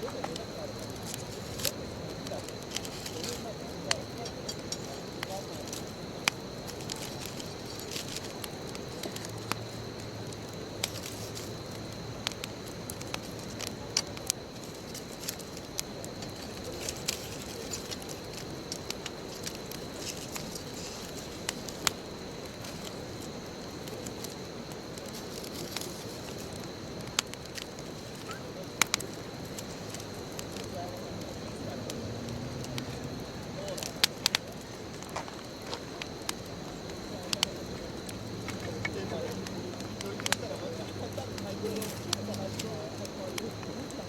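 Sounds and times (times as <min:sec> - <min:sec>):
burning wood crackling and popping: 0:00.0 - 0:44.0.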